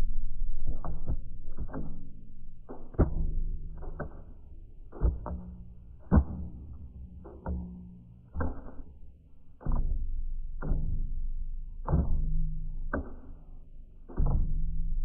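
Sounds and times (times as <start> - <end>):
low sustained tones: 0.0 - 15.0.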